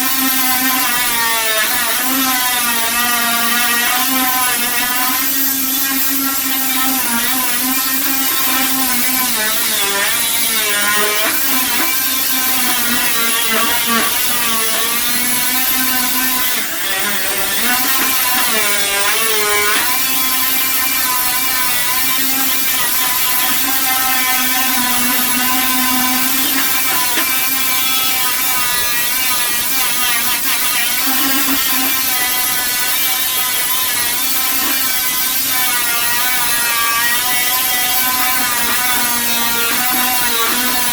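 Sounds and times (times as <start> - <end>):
handheld power tool whining: 0.0 - 40.9.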